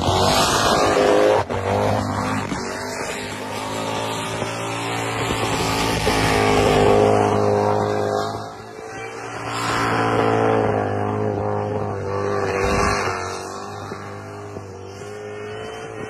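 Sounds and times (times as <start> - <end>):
truck engine revving high: 0.0 - 16.0.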